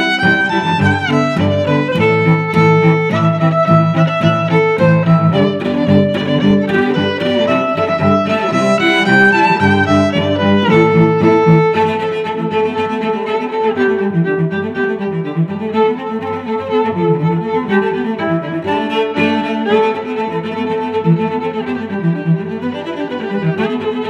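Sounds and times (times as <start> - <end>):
bowed strings music: 0.0 - 24.0.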